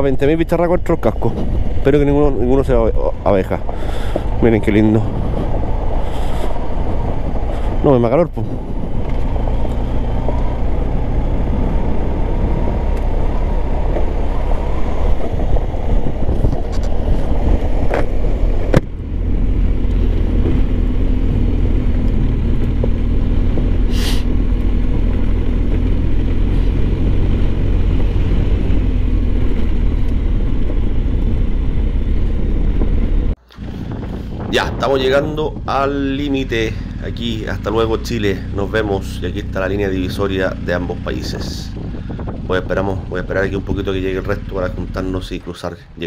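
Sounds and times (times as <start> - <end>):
motorcycle engine: 0.0 - 46.0
wind on microphone: 0.8 - 44.9.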